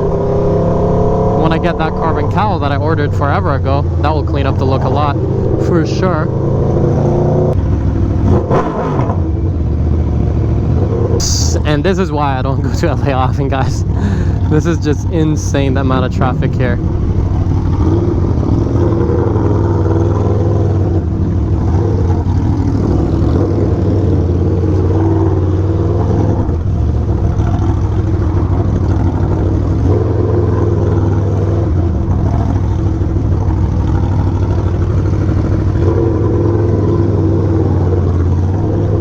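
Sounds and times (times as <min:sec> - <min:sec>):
motorcycle engine running at low revs: 0:00.0 - 0:39.0.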